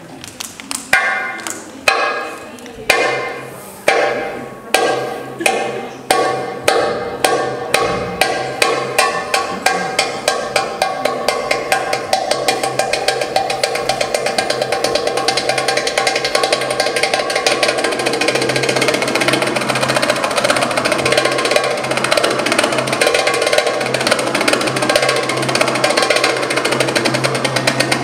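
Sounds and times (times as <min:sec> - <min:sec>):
tabla drum: 0:00.9 - 0:28.0.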